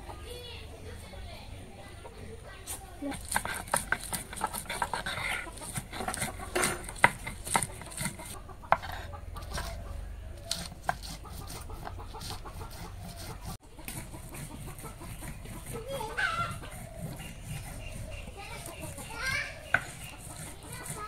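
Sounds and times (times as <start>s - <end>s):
chickens clucking: 0.0s - 21.0s
stone crushing on grinding slab: 3.1s - 9.8s, 10.5s - 21.0s.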